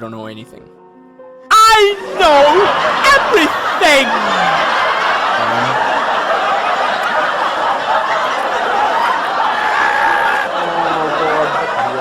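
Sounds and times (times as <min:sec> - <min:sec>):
crowd laughing: 0:01.5 - 0:12.0.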